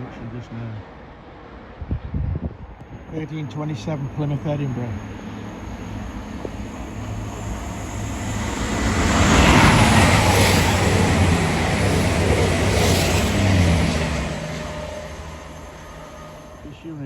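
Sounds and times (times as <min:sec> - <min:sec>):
train engine passing: 0:02.6 - 0:17.0.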